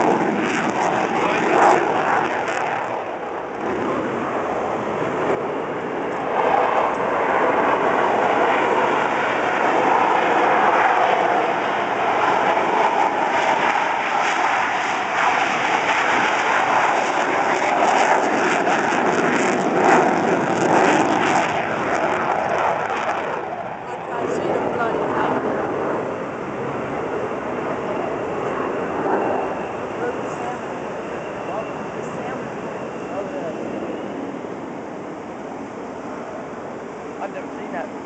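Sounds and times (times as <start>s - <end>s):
jet engines roaring at take-off: 0.0s - 38.0s.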